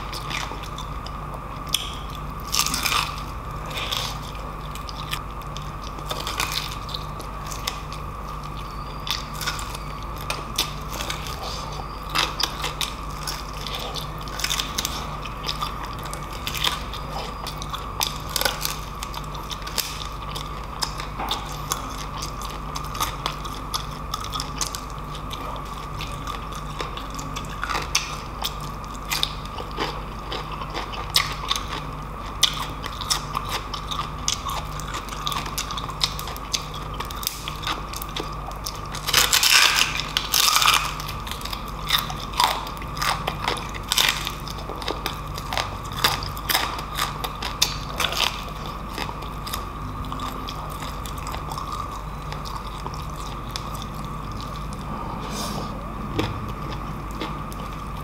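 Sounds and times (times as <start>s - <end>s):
chewing crispy food: 0.0s - 58.0s.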